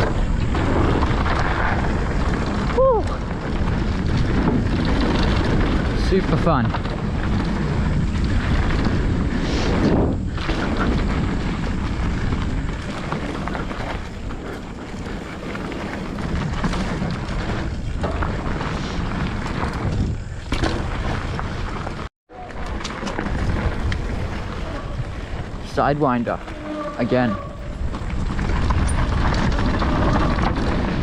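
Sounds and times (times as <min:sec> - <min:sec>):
bike knocking over bumps: 0:00.0 - 0:25.7
wind buffeting microphone: 0:00.0 - 0:31.0.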